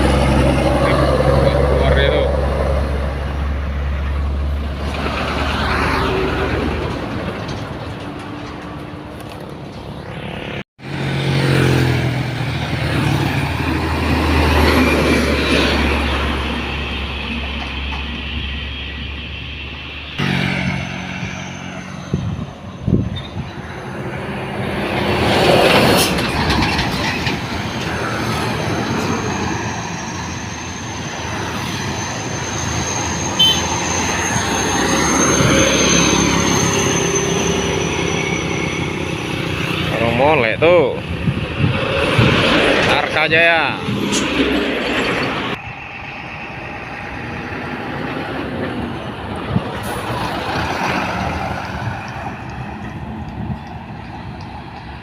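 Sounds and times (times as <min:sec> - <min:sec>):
diesel truck engines laboring: 0:00.0 - 0:55.0.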